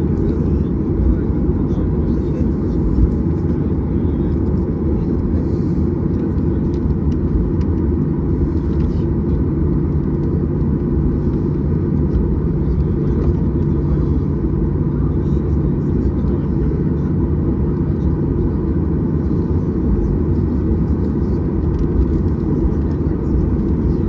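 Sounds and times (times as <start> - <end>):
aircraft cabin low rumble: 0.0 - 24.0.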